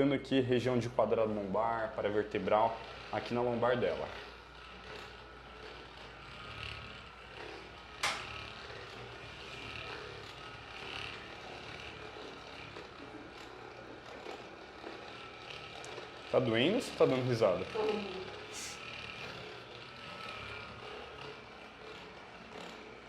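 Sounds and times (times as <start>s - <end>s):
massager motor hum: 0.0s - 23.0s.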